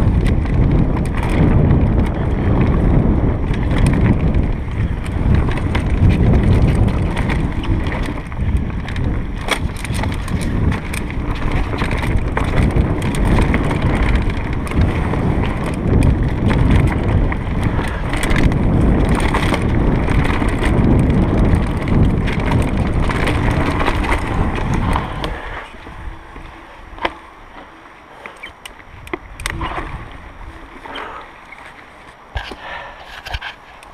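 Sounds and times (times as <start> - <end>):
bike clicks and knocks: 0.0 - 33.9
bike rattling over trail: 0.0 - 33.9
wind buffeting microphone: 0.0 - 33.9.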